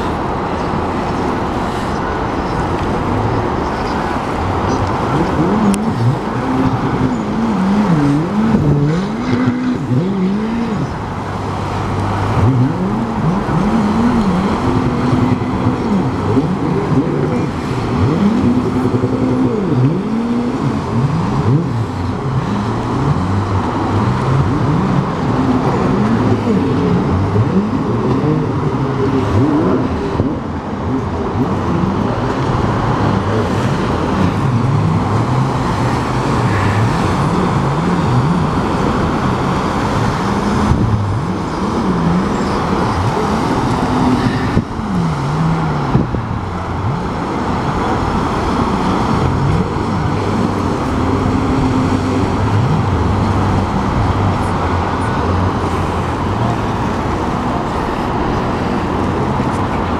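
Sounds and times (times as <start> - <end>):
broad rushing noise: 0.0 - 59.9
jet ski engines revving: 0.0 - 59.9.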